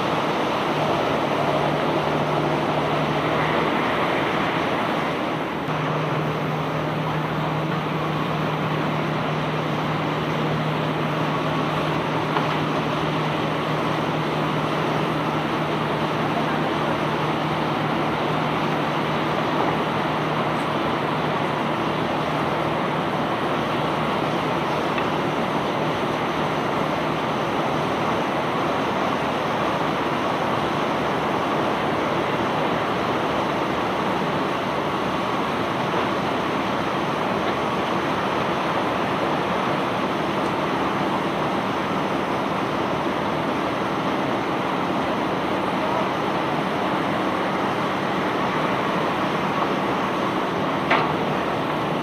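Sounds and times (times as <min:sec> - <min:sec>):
barge machinery running: 0:00.0 - 0:52.0.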